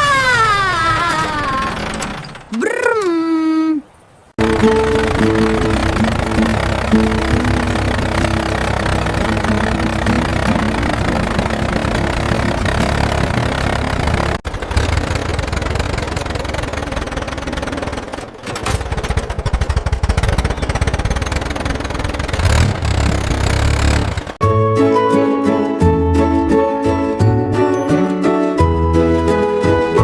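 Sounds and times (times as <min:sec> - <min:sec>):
cartoon tractor engine rumble: 0:00.0 - 0:30.0.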